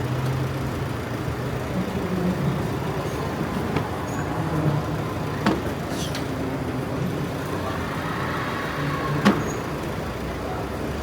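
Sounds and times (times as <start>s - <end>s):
road vehicle hum: 0.0s - 11.0s.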